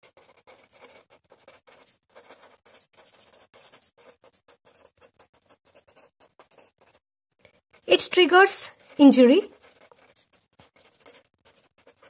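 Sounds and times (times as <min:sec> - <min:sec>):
pen scratching on paper: 0:00.0 - 0:12.0.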